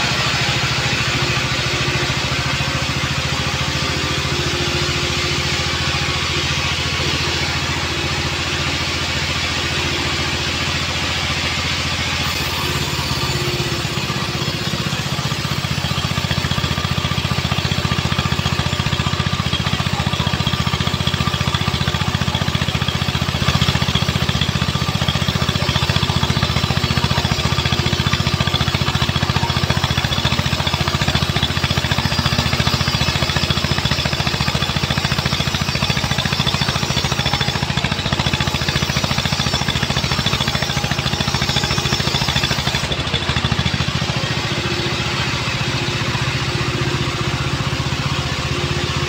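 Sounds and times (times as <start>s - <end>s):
band saw cutting log: 0.0s - 49.0s.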